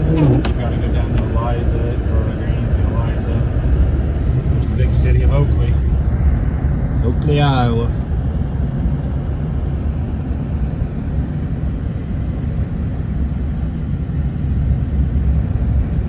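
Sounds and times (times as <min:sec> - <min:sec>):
road and engine rumble in car: 0:00.0 - 0:16.0.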